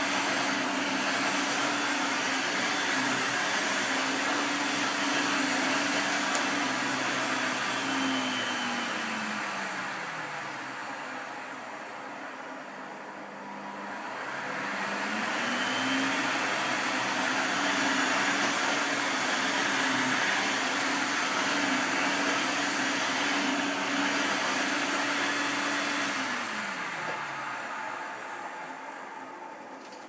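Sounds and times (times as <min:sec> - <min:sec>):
upright vacuum cleaner motor running: 0:00.0 - 0:30.0.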